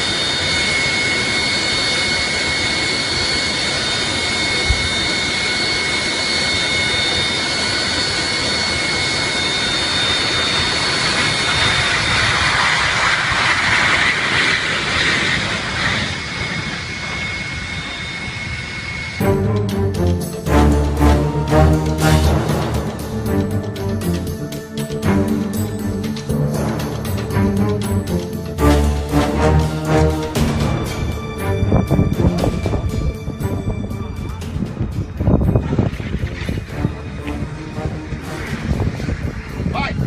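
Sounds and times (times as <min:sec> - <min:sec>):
jet engine roaring with high whine: 0:00.0 - 0:40.0.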